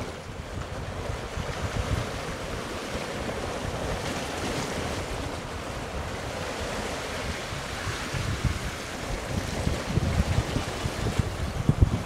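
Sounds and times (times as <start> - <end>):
sea wash: 0.0 - 12.0
wind buffeting microphone: 0.0 - 12.0.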